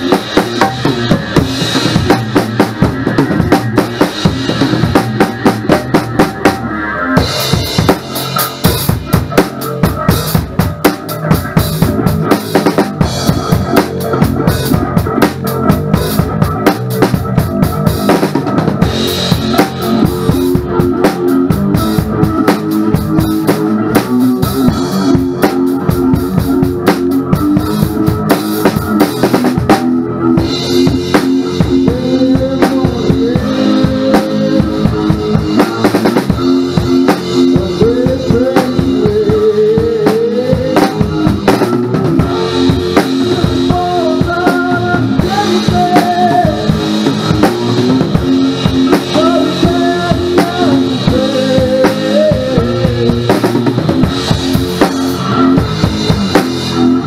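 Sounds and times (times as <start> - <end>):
amplified guitar: 0.0 - 57.0
drum kit hit hard: 0.0 - 57.0.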